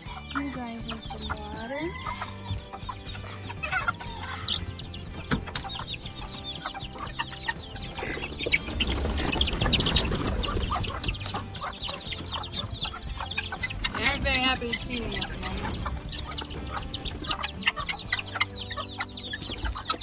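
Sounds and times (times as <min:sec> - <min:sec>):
chickens clucking and calling: 0:00.0 - 0:20.0.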